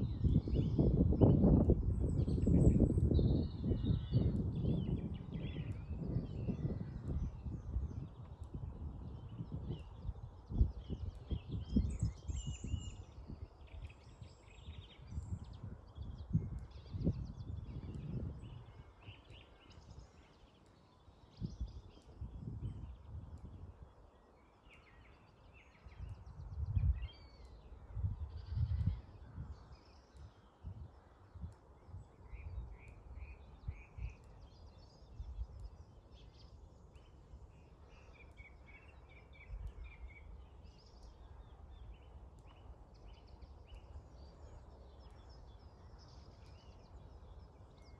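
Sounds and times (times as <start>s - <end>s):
wind buffeting microphone: 0.0s - 20.6s, 21.2s - 47.9s
small birds chirping: 0.0s - 47.9s.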